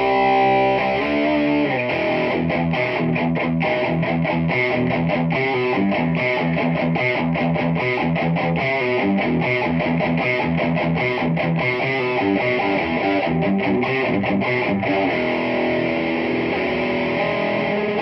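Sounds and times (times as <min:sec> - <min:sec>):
distorted electric guitar riff: 0:00.0 - 0:18.0.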